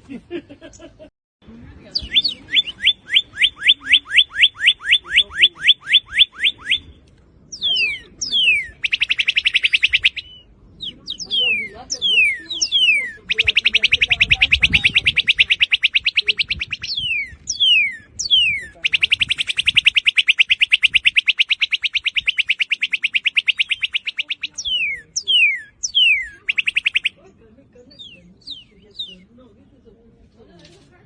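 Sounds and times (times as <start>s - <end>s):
cardinal singing whistles and trills: 1.9s - 29.4s.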